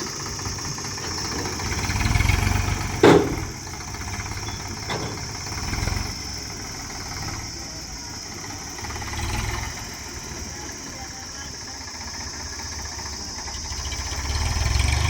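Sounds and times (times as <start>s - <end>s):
heavy machine engine idling: 0.0s - 14.7s.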